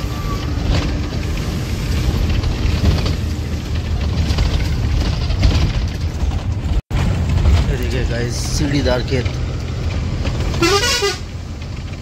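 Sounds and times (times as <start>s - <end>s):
bus body rattling and knocking: 0.0s - 12.0s
bus engine and road rumble: 0.0s - 12.0s.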